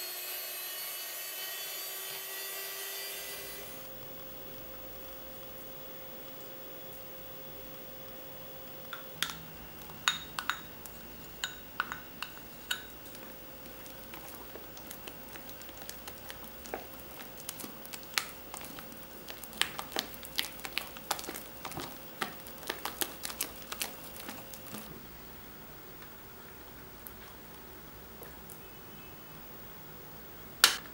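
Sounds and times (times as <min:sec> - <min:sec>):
faint steady hum: 0:03.1 - 0:30.9.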